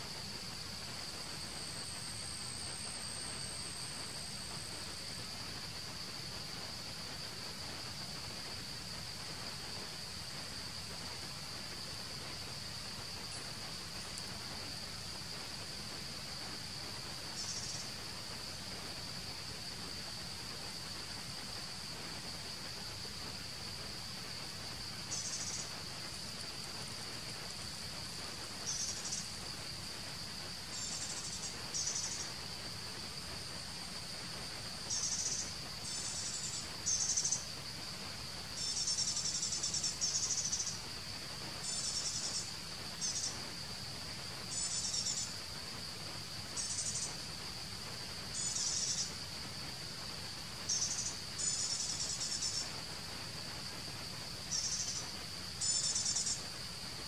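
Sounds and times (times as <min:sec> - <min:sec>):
insects droning: 0:00.0 - 0:57.0
insect buzzing trills: 0:10.1 - 0:57.0.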